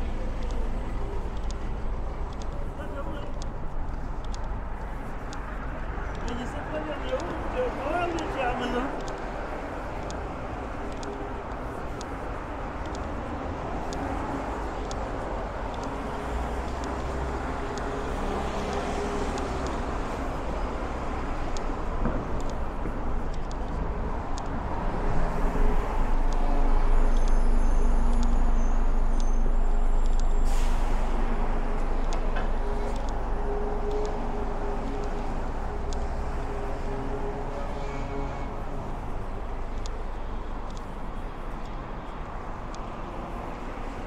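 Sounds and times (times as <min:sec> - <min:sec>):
road traffic passing: 0:00.0 - 0:44.0.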